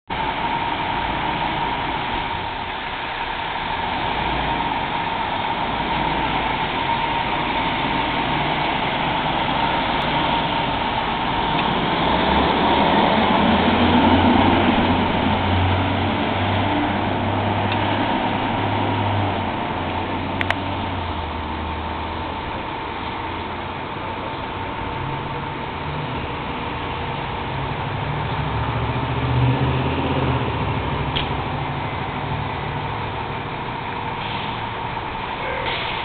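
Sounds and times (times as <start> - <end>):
diesel truck engine running: 0.1 - 36.0.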